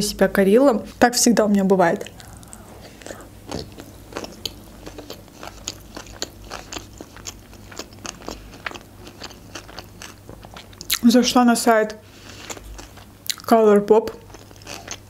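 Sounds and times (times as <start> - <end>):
close chewing with mouth clicks: 2.0 - 11.1, 11.8 - 15.0.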